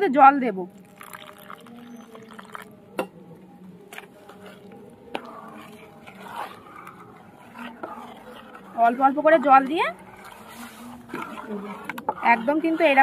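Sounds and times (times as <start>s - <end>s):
ladle stirring wet batter: 0.7s - 13.0s.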